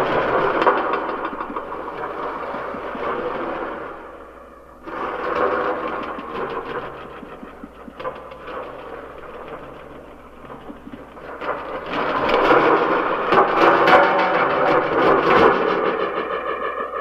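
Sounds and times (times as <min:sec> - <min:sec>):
dense crackle: 0:00.0 - 0:17.0
rumbling machine-like noise: 0:00.0 - 0:17.0.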